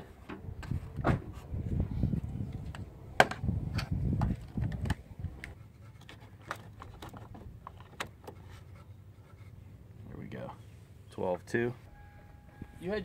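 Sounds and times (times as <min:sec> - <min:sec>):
handling rumbling and rustling: 0:00.0 - 0:11.1.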